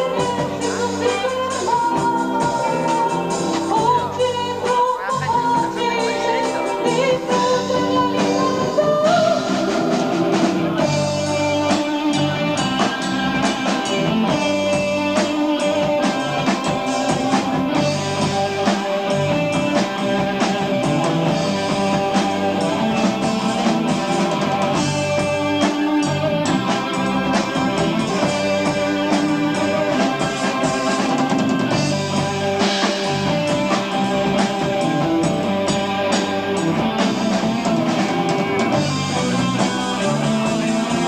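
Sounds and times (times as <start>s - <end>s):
rock band playing live: 0.0s - 41.0s.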